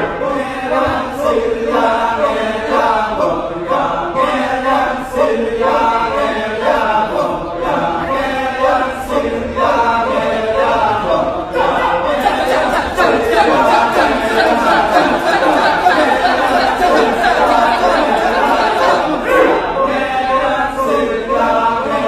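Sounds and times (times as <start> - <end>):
group chanting a cappella: 0.0 - 22.0.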